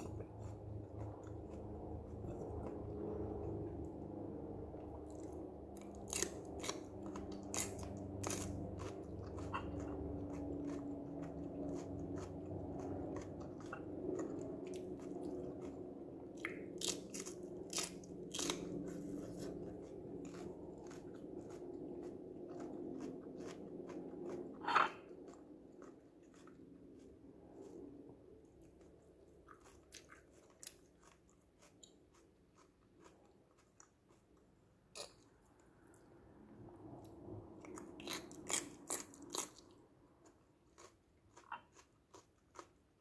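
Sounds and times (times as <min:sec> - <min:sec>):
crunchy chewing of pepper: 0:00.0 - 0:36.1, 0:36.8 - 0:43.0
steady low hum: 0:00.0 - 0:43.0.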